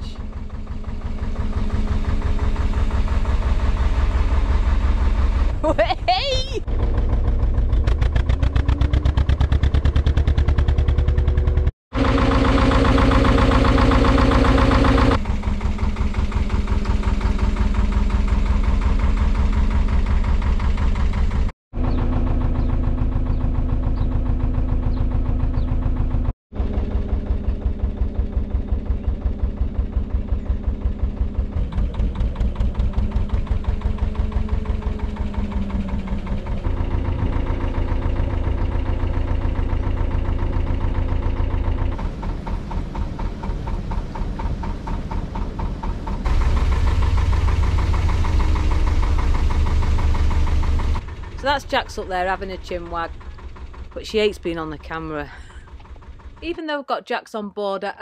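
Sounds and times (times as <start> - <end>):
diesel boat engine running: 0.0 - 56.8.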